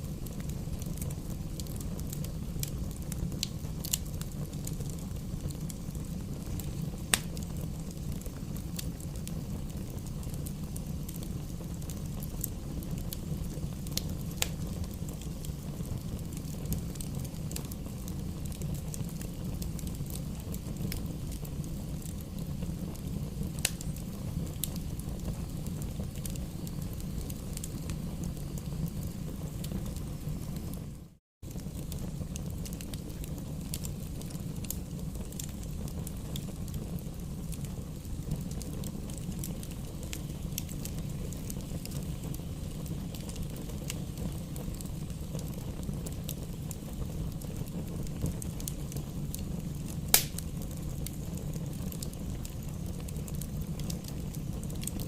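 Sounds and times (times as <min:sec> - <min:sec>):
burning wood crackling and popping: 0:00.0 - 0:55.0
flames rumbling: 0:00.0 - 0:55.0.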